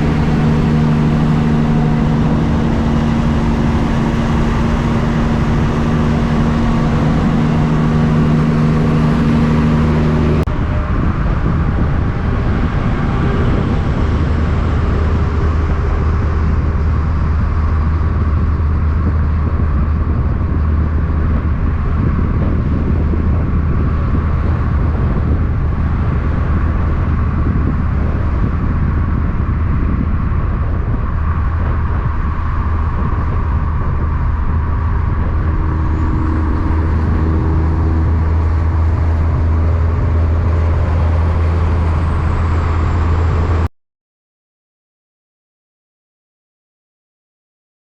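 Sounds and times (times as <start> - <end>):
higher droning tone: 0.0 - 43.7
truck engine droning: 0.0 - 43.7.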